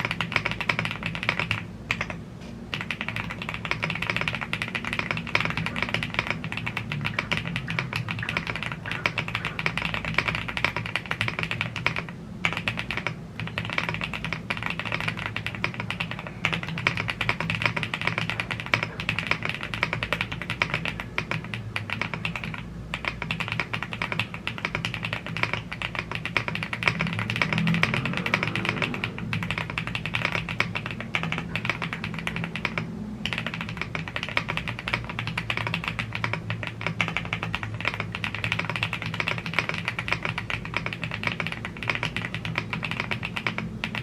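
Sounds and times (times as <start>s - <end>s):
mechanical keyboard typing: 0.0s - 44.0s.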